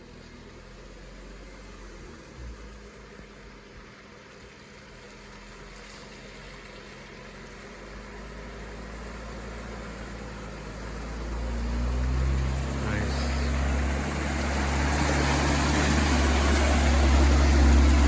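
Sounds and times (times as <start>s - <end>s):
engine running at low speed: 0.0s - 18.0s
tyre and road noise: 0.0s - 18.0s.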